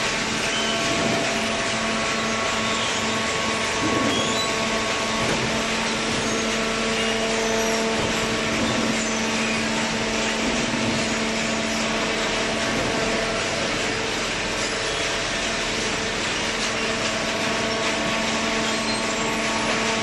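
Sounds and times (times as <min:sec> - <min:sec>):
hydraulic machine humming: 0:00.0 - 0:20.0.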